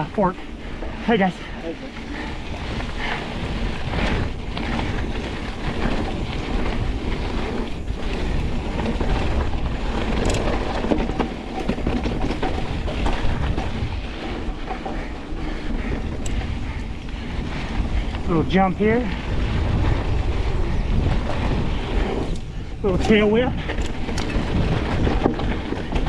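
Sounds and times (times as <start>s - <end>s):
wind on microphone: 0.0s - 26.0s
bike clattering and knocking: 2.0s - 19.1s, 19.7s - 26.0s.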